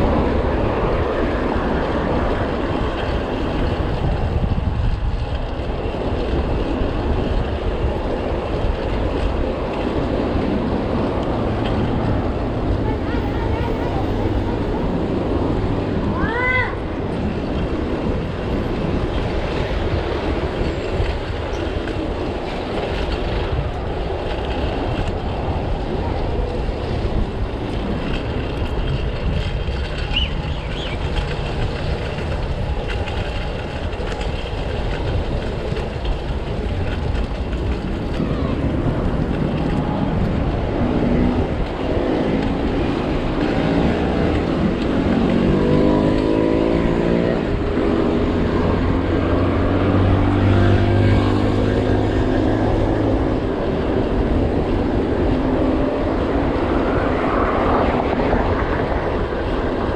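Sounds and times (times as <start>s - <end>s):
street traffic rumble: 0.0s - 59.9s
wind-buffeted riding noise: 0.0s - 59.9s.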